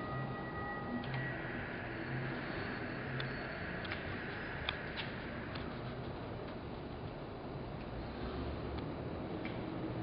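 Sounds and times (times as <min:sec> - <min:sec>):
steady machine hum: 0:00.0 - 0:10.0.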